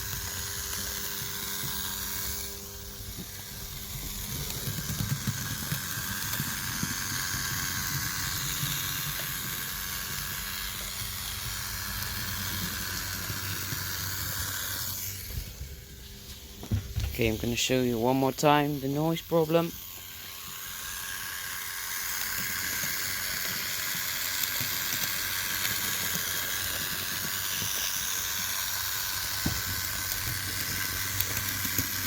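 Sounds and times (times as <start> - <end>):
model train motor whirring: 0.0 - 32.0.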